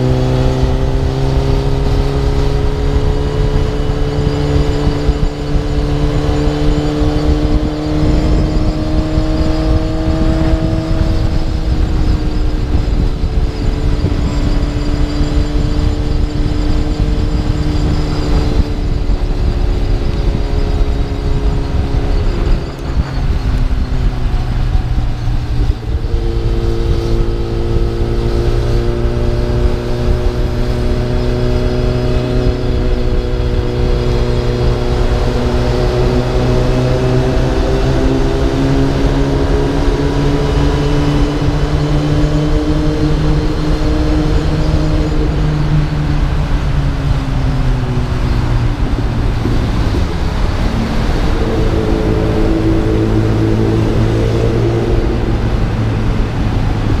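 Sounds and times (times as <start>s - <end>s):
heavy wind noise: 0.0s - 57.0s
motorcycle engine running: 0.0s - 57.0s.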